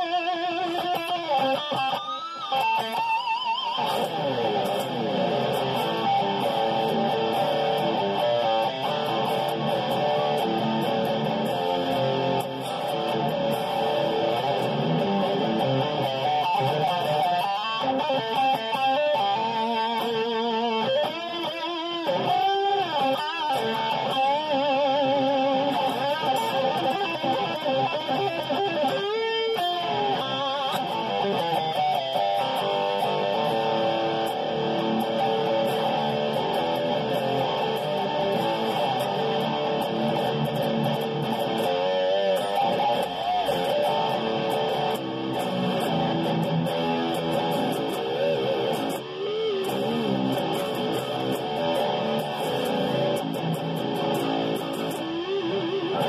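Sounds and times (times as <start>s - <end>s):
electric guitar riff with vibrato: 0.0s - 56.0s.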